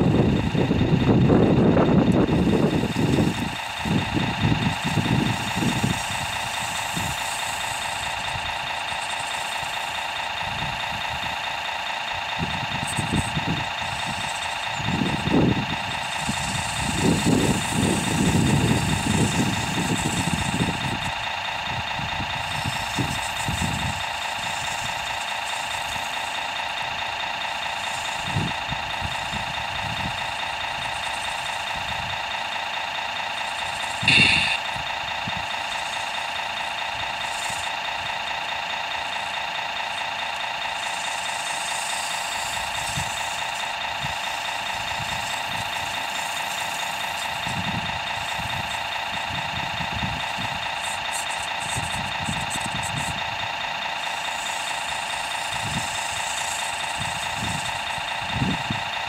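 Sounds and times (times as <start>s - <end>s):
model vehicle engine idling: 0.0s - 59.0s.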